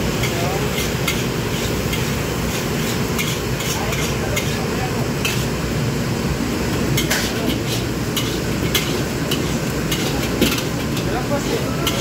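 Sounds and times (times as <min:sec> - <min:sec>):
wok burner roaring: 0:00.0 - 0:12.0
metal ladle scraping a wok: 0:00.2 - 0:05.6, 0:07.0 - 0:12.0.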